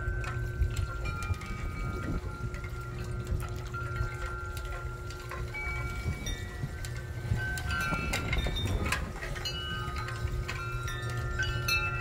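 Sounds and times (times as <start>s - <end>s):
steady low rumble: 0.0s - 12.0s
wind chimes ringing: 0.0s - 12.0s.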